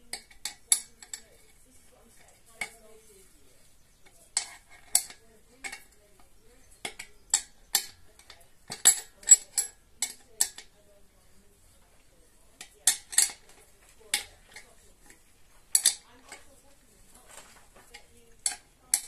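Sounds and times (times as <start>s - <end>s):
metal tools clinking: 0.0s - 19.0s.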